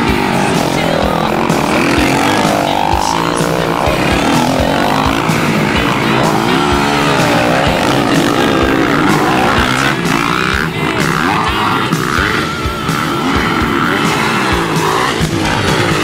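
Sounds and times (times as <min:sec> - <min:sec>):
motocross bikes accelerating: 0:00.0 - 0:16.0.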